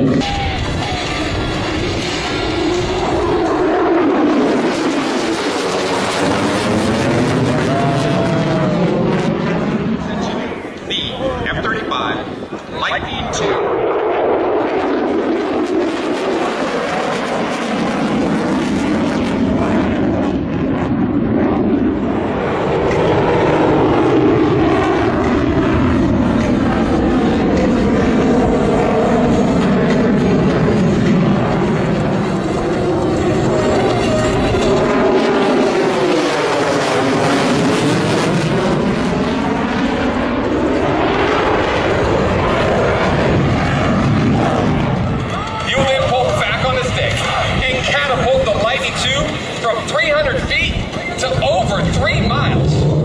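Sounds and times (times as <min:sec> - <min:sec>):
fighter jet engine rush: 0:00.0 - 0:53.0.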